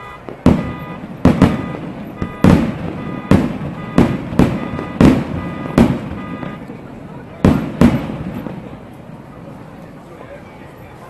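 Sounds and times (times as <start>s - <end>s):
fireworks bursting: 0.0s - 10.6s.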